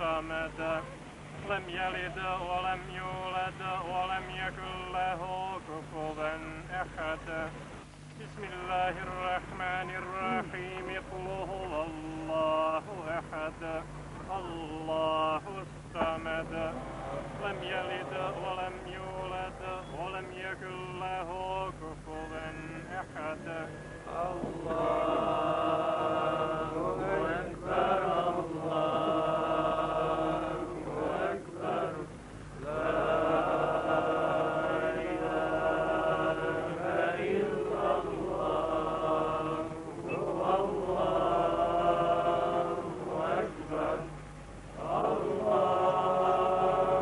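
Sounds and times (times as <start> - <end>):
voices chanting a funeral recitation: 0.0 - 47.0.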